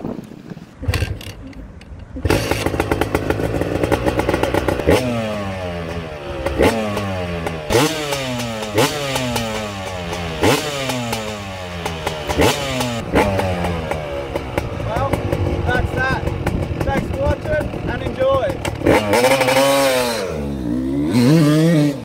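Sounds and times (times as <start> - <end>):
dirt bike engine revving: 2.2 - 22.0.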